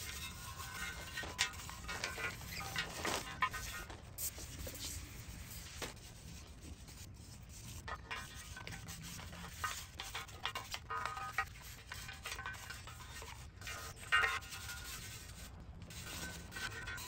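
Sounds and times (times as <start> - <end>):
brush scrubbing wet metal: 0.0 - 17.0.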